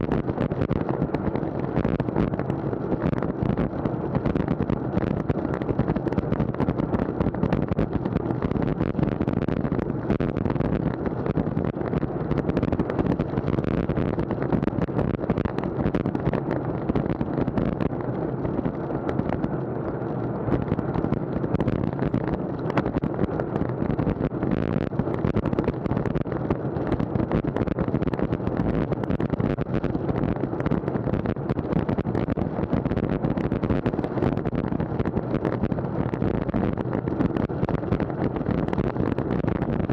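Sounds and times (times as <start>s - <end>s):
wind buffeting microphone: 0.0s - 39.9s
rolling road noise: 0.1s - 39.7s.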